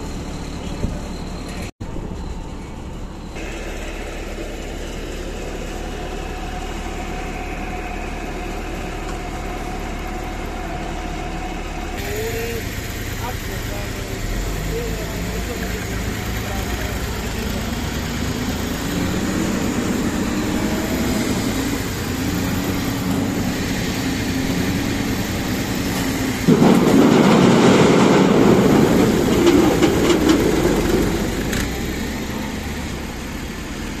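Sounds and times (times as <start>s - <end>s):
harvesting machine running: 0.0s - 34.0s.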